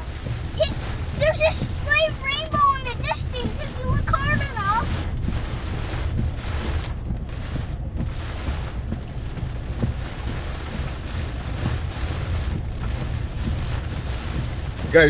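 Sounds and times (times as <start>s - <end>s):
low rumble: 0.0s - 14.9s
gusting wind: 0.0s - 15.0s
rain: 0.0s - 15.0s.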